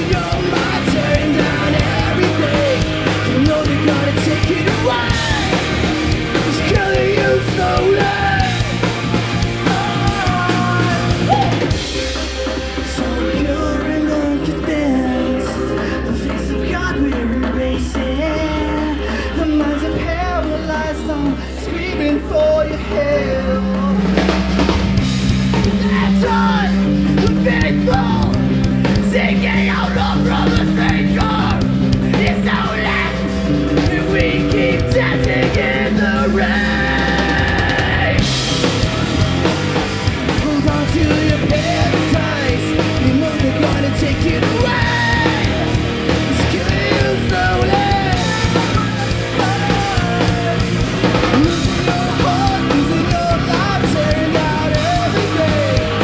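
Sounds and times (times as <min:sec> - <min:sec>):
heavy rock band playing: 0:00.0 - 0:56.0.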